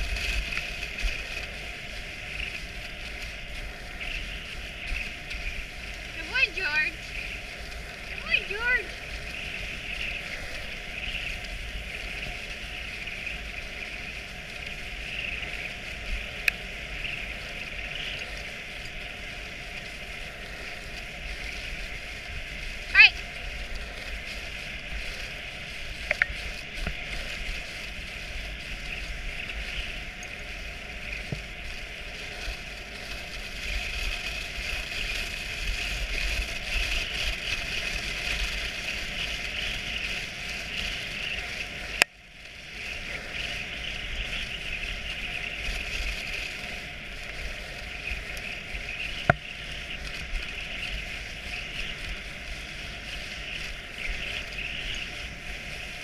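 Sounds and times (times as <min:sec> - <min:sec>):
sled runners hissing over snow: 0:00.0 - 0:56.0
wind rumble on microphone: 0:00.0 - 0:56.0.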